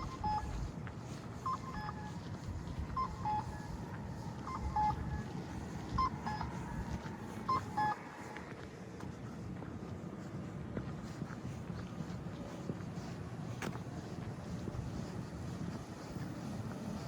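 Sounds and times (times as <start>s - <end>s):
low city hum: 0.0s - 17.0s.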